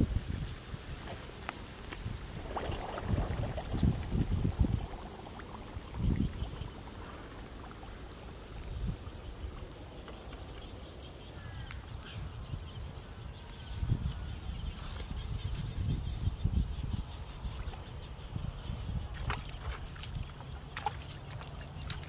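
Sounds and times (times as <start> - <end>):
wind rumbling on microphone: 0.0 - 10.8, 11.4 - 22.0.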